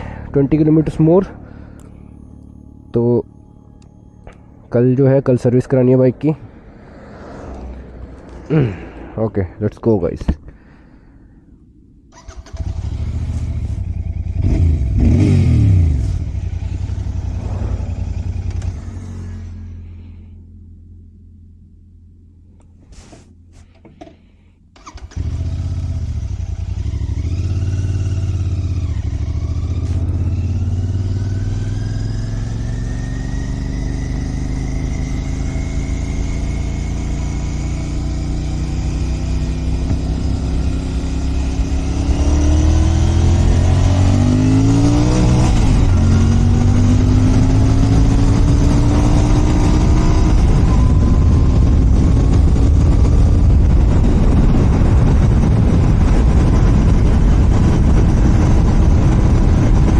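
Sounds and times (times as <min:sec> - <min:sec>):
motorcycle engine accelerating: 0:00.0 - 0:09.2, 0:12.1 - 0:59.9.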